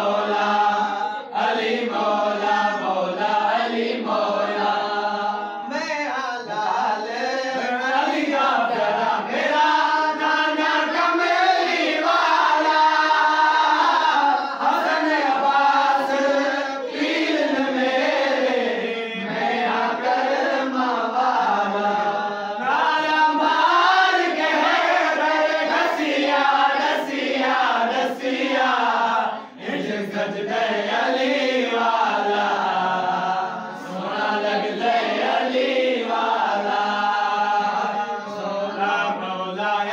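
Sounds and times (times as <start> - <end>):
men singing devotional chant: 0.0 - 39.9.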